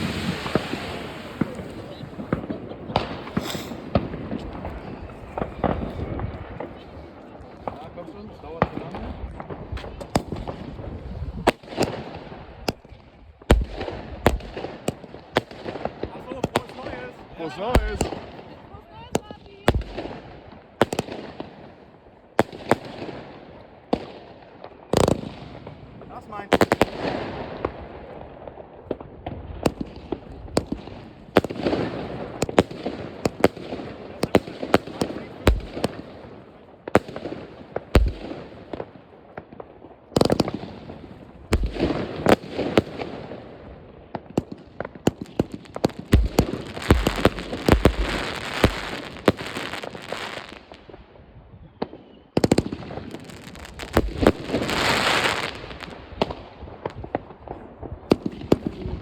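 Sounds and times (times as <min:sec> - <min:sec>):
fireworks bangs: 0:00.0 - 0:21.8, 0:22.4 - 0:51.0, 0:51.8 - 0:59.0
fireworks crackling: 0:00.0 - 0:51.0, 0:51.9 - 0:59.0.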